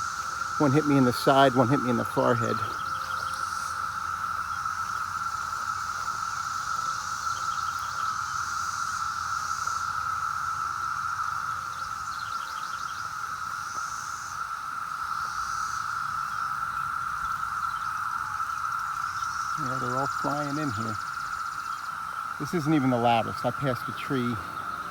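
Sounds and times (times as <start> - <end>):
cicadas droning: 0.0 - 24.9.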